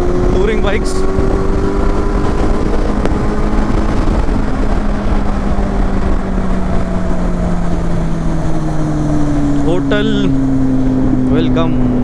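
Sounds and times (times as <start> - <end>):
heavy low rumble: 0.0 - 12.0
motorcycle engine running: 0.0 - 12.0.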